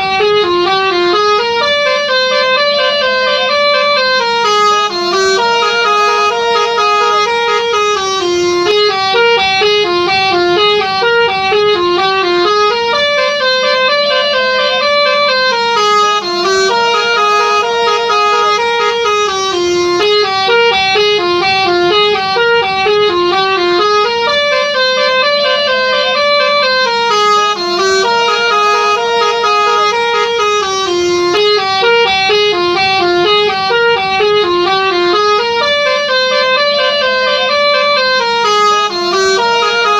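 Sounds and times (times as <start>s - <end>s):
held wavering note: 0.0s - 39.9s
musical bus air horn melody: 0.0s - 39.9s.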